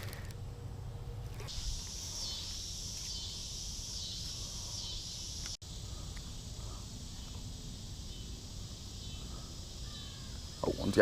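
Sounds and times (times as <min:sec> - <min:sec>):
insects buzzing: 0:01.4 - 0:11.0.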